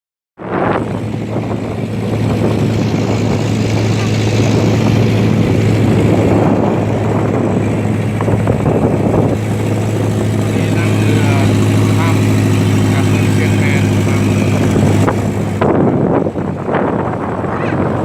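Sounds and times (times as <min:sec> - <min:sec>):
boat engine droning: 0:00.4 - 0:18.0.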